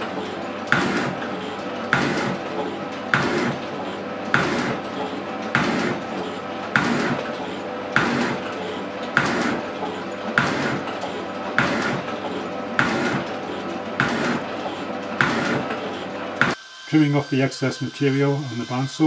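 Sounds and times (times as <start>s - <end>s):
shaping machine ram knocking: 0.0s - 16.6s
tool scraping across iron: 0.0s - 16.6s
machine humming: 0.0s - 19.0s.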